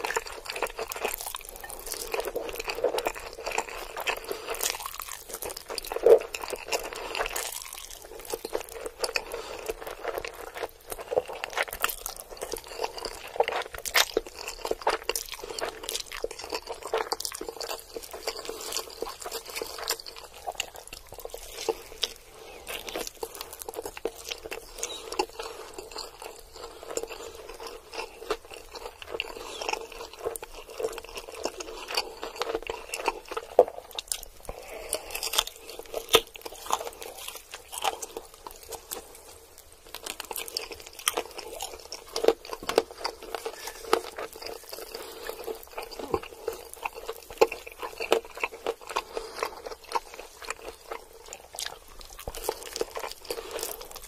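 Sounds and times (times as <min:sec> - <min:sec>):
person chewing fried chicken: 0:00.0 - 0:54.0.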